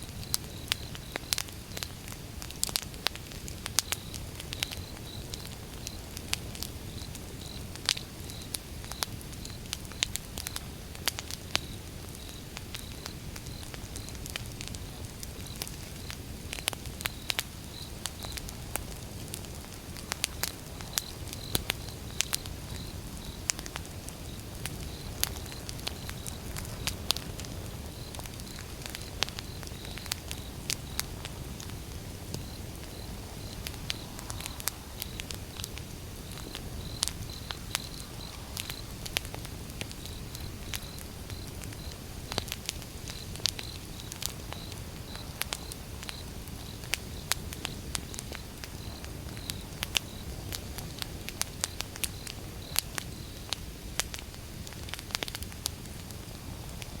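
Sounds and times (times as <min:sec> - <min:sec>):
low rumble of flames: 0:00.0 - 0:57.0
logs crackling and popping: 0:00.1 - 0:57.0.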